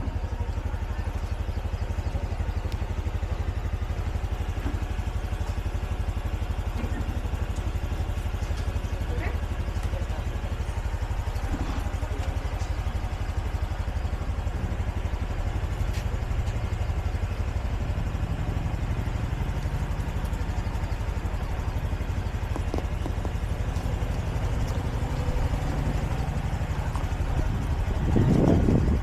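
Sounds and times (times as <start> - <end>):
motorbike engine running: 0.0 - 29.0.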